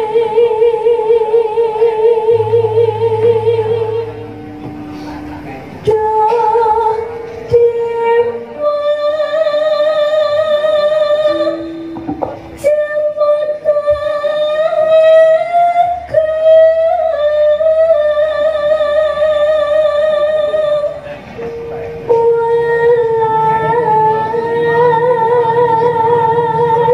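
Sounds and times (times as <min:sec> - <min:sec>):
light instrumental accompaniment: 0:00.0 - 0:26.9
woman singing with vibrato: 0:00.0 - 0:26.9.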